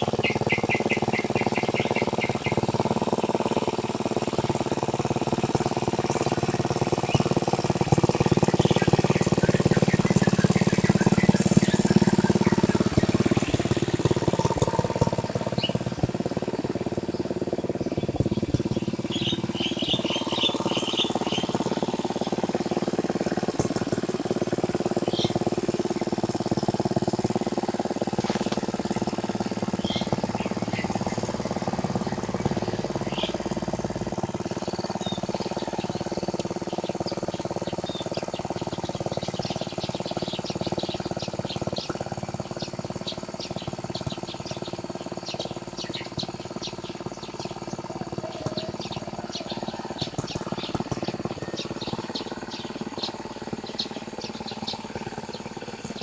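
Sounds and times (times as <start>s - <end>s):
birds chirping: 0.0s - 4.8s, 5.5s - 56.0s
small tractor engine running: 0.0s - 56.0s.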